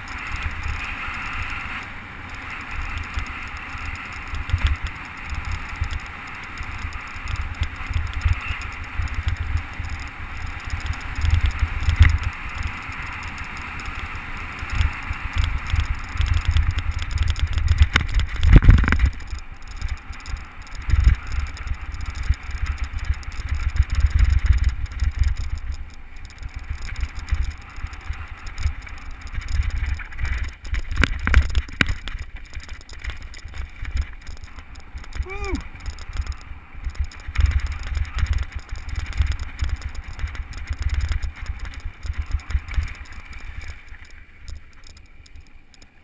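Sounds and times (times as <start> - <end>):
bike rattling: 0.0 - 46.0.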